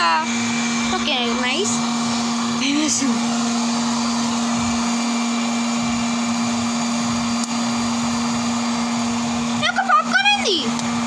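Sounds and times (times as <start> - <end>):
popcorn maker motor hum: 0.0 - 11.0.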